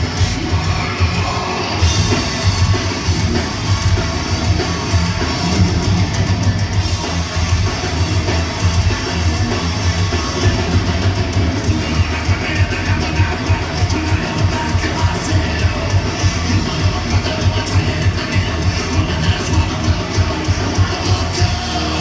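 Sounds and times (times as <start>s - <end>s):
bass guitar: 0.0s - 22.0s
distorted electric guitars: 0.0s - 22.0s
pounding drum kit: 0.0s - 22.0s.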